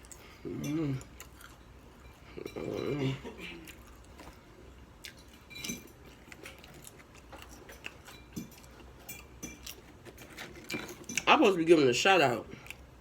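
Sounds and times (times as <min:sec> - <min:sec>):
chewing potato chips: 0:00.0 - 0:11.3, 0:12.5 - 0:13.0.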